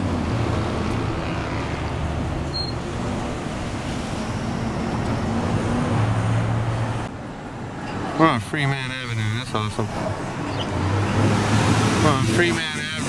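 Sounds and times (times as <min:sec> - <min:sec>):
cars passing: 0:00.0 - 0:13.0.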